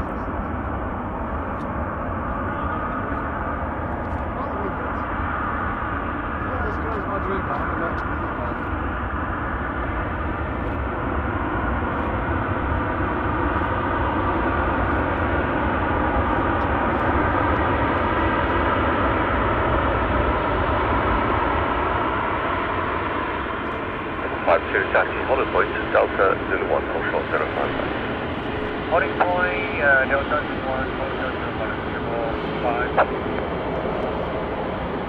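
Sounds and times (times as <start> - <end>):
jet airliner engines running: 0.0 - 35.0.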